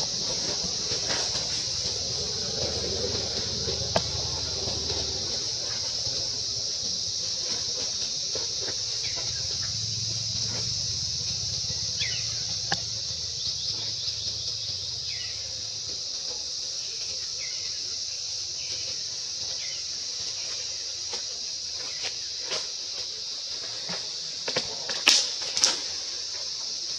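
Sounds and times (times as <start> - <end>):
insect chorus drone: 0.0 - 26.9.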